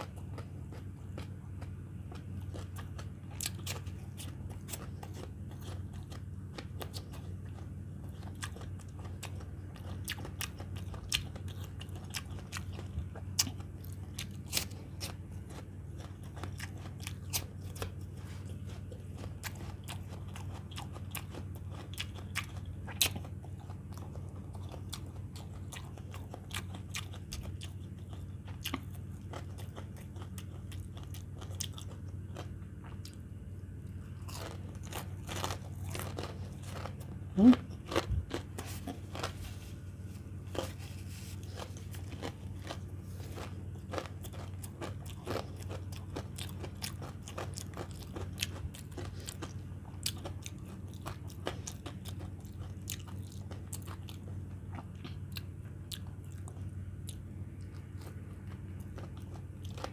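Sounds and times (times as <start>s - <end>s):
man chewing and crunching food: 0.0s - 59.9s
steady low hum: 0.0s - 59.9s.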